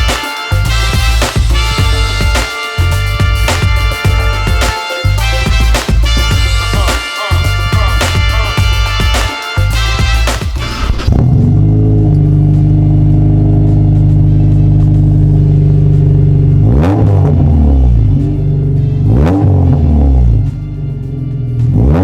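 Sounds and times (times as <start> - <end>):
car engine idling: 0.0 - 21.8
engine throttle blips: 0.0 - 22.0.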